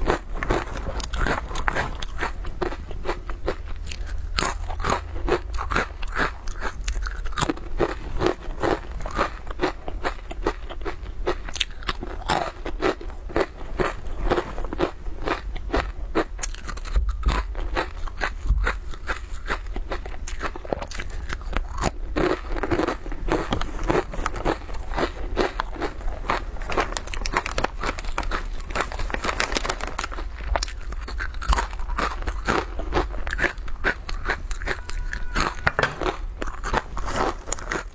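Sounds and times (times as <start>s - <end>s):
crunching and chewing crisps: 0.0s - 37.9s.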